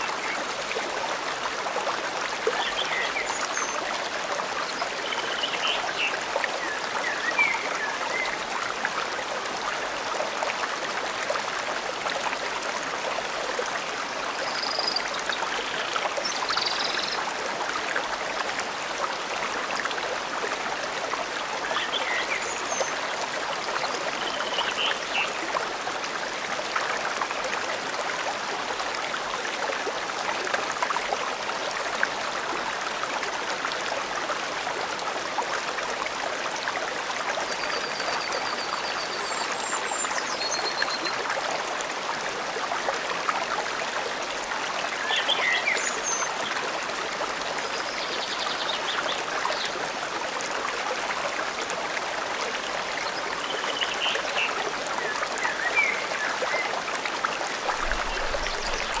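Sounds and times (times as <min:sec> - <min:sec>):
stream flowing over stones: 0:00.0 - 0:59.0.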